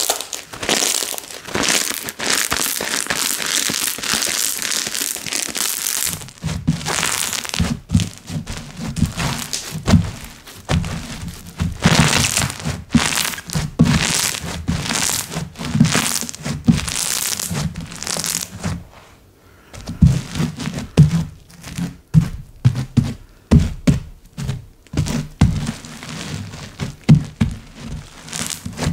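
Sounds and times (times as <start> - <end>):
slime squishing: 0.0 - 18.9, 24.3 - 28.9.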